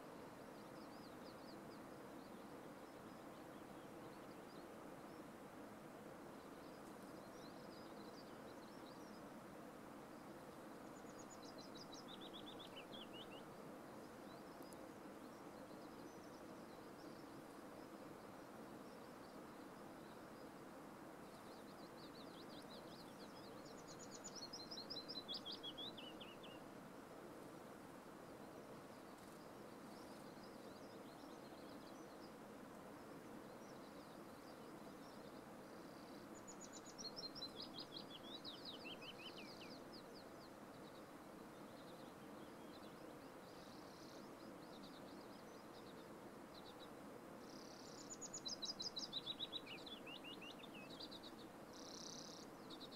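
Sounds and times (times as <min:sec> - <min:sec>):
faint outdoor hiss: 0:00.0 - 0:52.9.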